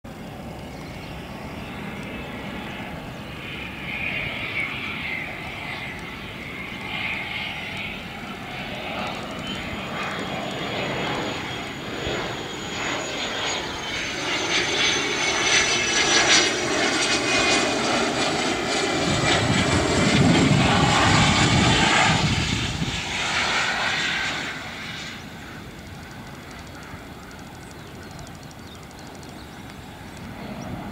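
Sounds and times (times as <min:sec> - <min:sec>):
jet engine whine: 0:00.0 - 0:30.9.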